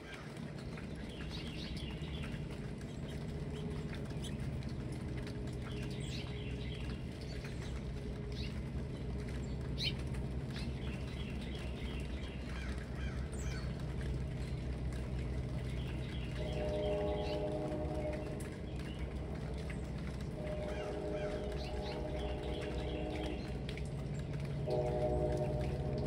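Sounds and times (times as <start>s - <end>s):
songbirds calling: 0.0s - 26.0s
steady low rumble: 0.3s - 26.0s.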